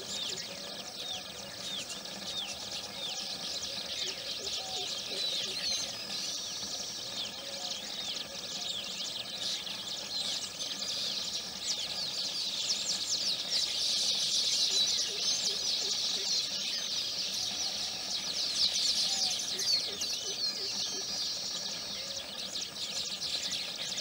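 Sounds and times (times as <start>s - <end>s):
birds chattering: 0.0s - 24.0s.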